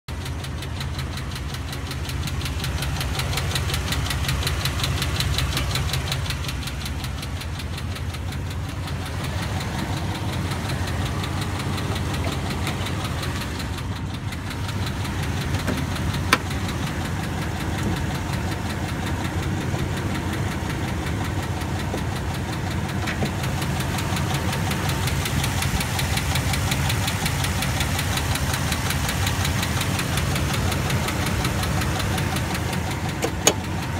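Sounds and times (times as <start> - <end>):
engine running with ticking knock: 0.1 - 33.9.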